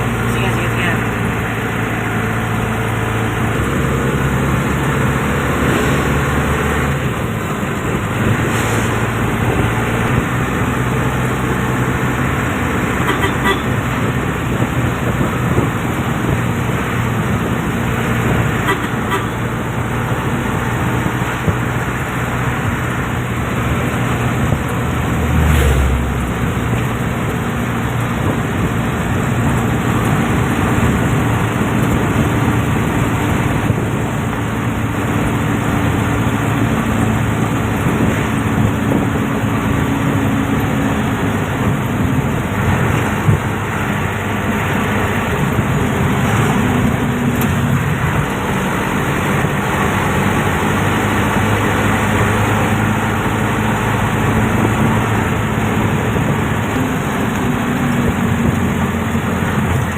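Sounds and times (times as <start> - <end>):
loud low vehicle rumble: 0.0 - 59.9
traffic engines and road noise: 0.0 - 59.9.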